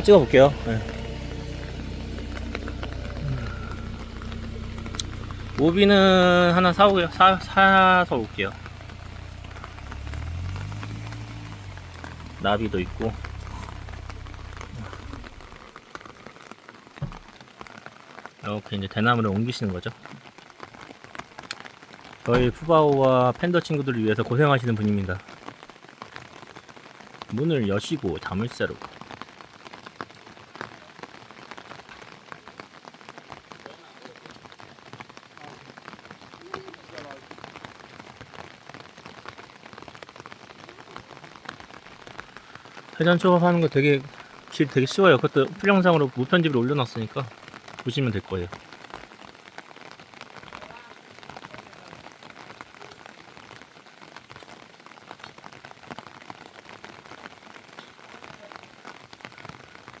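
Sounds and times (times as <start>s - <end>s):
heavy rain: 0.0s - 60.0s.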